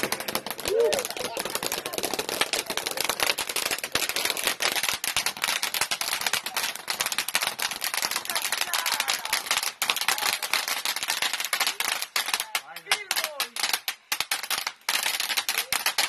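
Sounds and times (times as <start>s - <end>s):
ground fireworks crackling: 0.0s - 16.0s.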